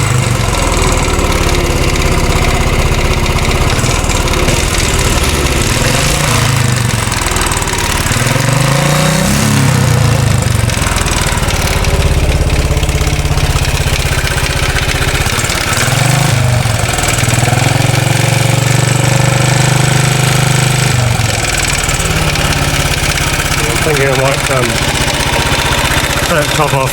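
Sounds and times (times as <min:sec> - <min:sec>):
engine rattle: 0:00.0 - 0:26.9
motorcycle engine idling and revving: 0:00.0 - 0:26.9.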